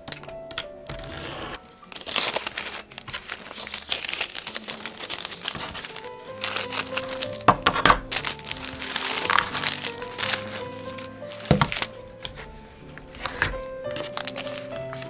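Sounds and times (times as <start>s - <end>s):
background music: 0.0s - 15.0s
plastic sheet crinkling: 0.0s - 15.0s.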